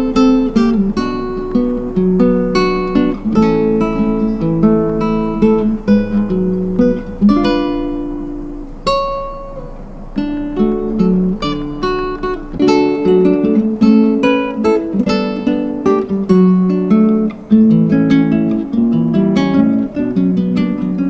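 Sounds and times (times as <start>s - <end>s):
plucked acoustic guitar: 0.0s - 21.0s.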